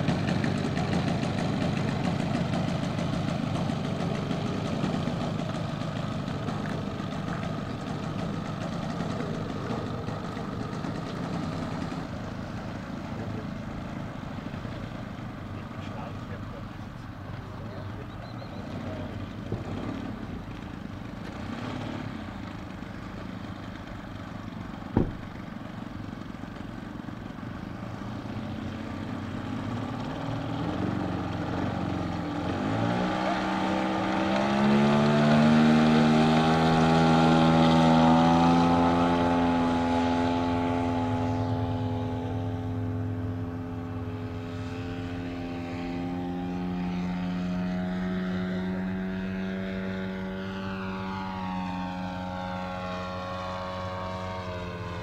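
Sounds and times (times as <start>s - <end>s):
model airplane propeller motor: 0.0s - 55.0s.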